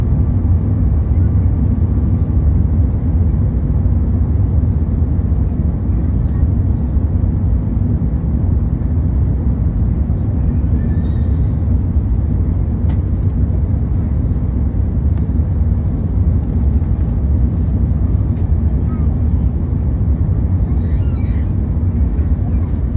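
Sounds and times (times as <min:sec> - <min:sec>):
airplane cabin rumble: 0:00.0 - 0:22.9.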